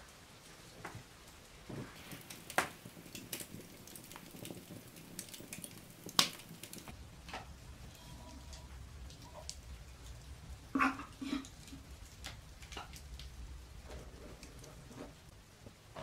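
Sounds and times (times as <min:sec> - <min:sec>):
loud cracks of fire: 0:00.0 - 0:16.0
wood fire crackling: 0:00.0 - 0:16.0.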